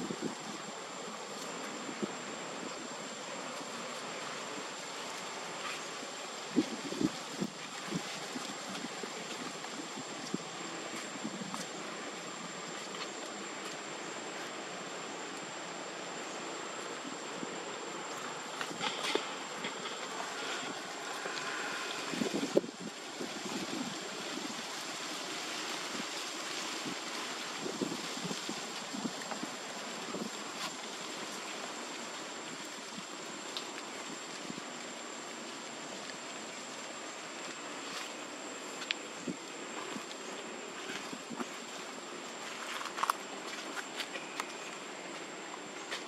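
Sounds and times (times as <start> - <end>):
outdoor background hiss: 0.0 - 46.0.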